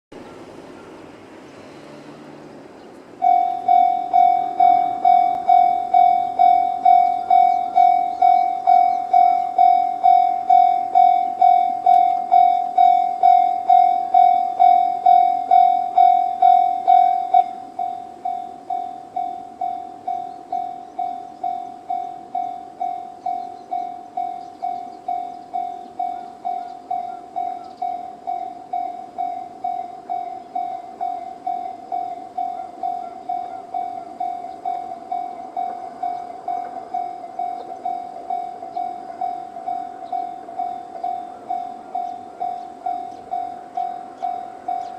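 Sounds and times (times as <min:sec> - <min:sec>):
level crossing alarm dinging: 0:03.2 - 0:44.9.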